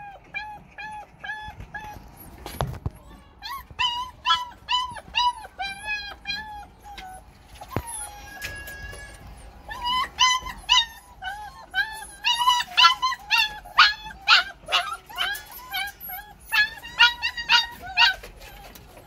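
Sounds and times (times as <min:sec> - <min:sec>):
puppy whimpering and yelping: 0:00.0 - 0:19.0.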